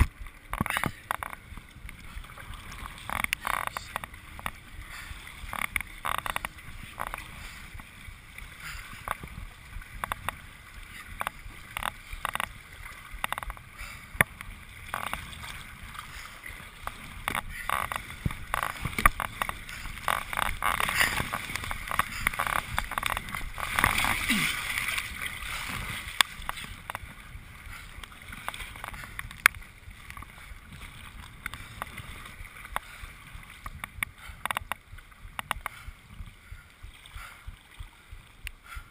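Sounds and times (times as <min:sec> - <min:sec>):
paddle strokes: 0:00.0 - 0:38.9
water lapping against hull: 0:00.0 - 0:38.9.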